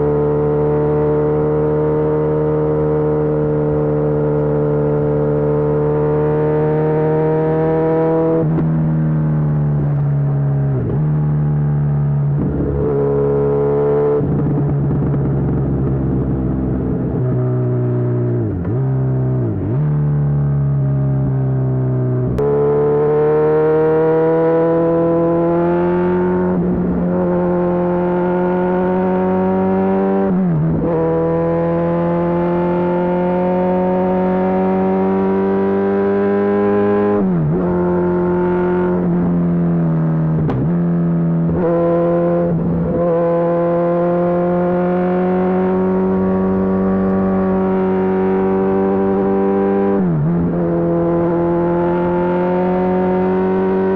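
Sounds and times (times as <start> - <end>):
motorcycle engine under throttle: 0.0 - 53.9.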